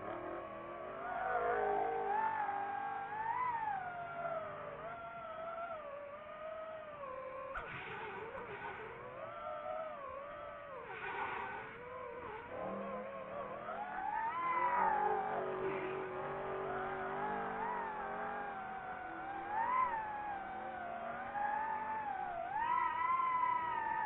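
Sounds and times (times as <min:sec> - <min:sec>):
drone motors whining: 0:00.0 - 0:24.0
low steady engine note: 0:00.0 - 0:24.0.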